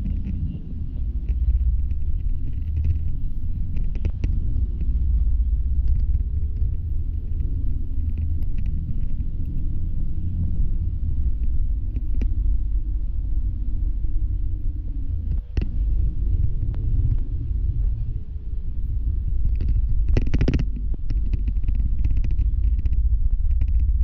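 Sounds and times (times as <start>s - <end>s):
bus engine and road rumble: 0.0s - 24.0s
faint steady whine: 0.0s - 24.0s.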